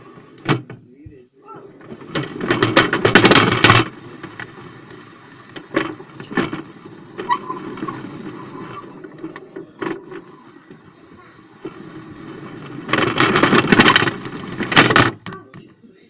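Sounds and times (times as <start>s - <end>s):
plastic toys clattering: 1.7s - 15.8s.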